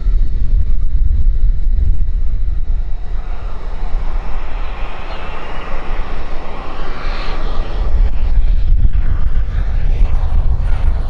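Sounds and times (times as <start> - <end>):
low rumble: 0.0 - 11.0
model jet rushing with whine: 0.0 - 11.0.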